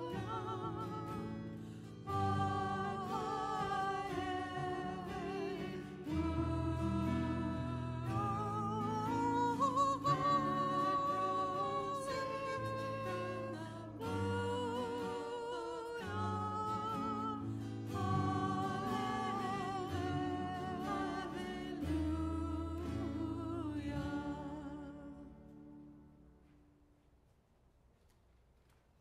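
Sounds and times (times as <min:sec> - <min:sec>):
voices singing a hymn: 0:00.0 - 0:25.3
acoustic guitar: 0:00.0 - 0:29.0.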